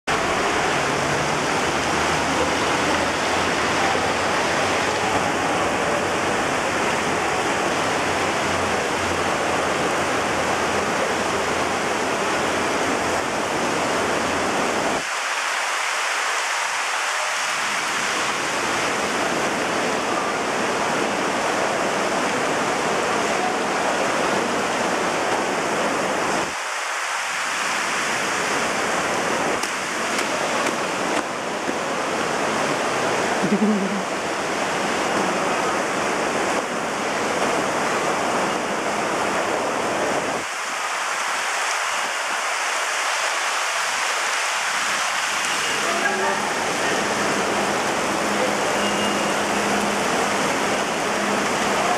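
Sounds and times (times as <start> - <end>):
heavy rain on pavement: 0.0 - 51.9.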